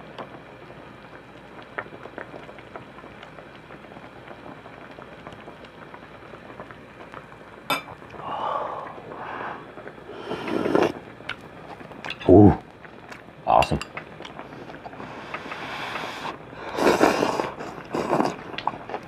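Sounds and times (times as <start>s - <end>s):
broth boiling and bubbling: 0.0s - 19.0s.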